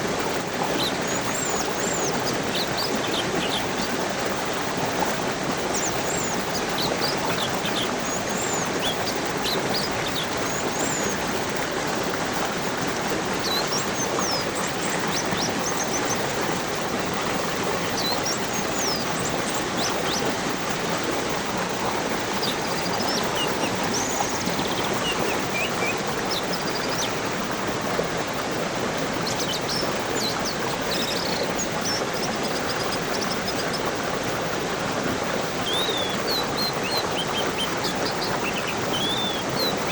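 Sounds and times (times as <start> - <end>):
flowing water: 0.0 - 39.9
small birds chirping: 0.0 - 39.9.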